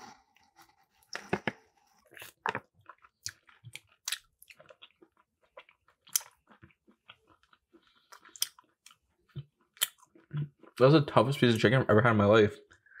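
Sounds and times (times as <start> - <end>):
person chewing with mouth closed: 0.0 - 10.8.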